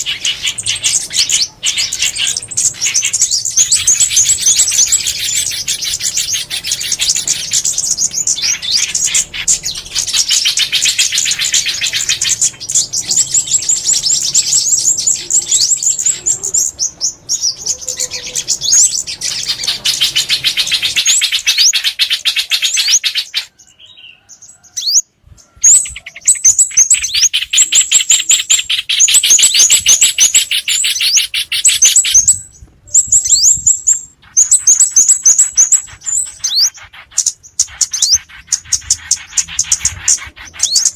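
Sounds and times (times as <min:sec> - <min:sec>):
high-pitched bird twittering: 0:00.0 - 0:40.9.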